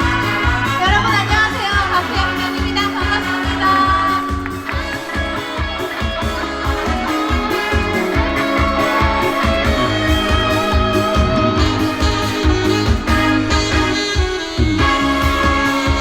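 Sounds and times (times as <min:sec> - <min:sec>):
electric guitar: 0:00.0 - 0:16.0
instrumental trot music: 0:00.0 - 0:16.0.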